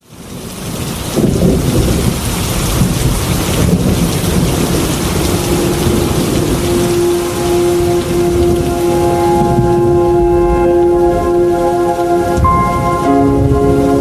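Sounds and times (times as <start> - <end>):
heavy rain falling: 0.0 - 14.0
thunder rumbling: 0.3 - 14.0.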